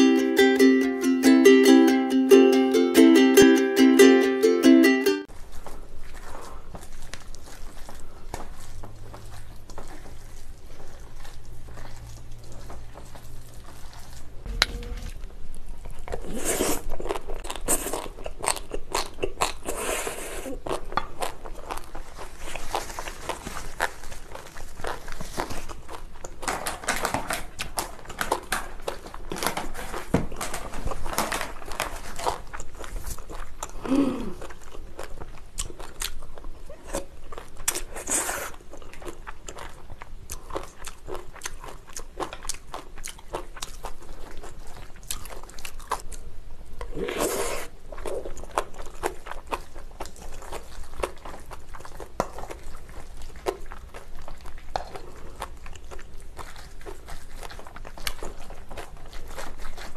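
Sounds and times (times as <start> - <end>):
chewing and crunching food: 5.3 - 59.9.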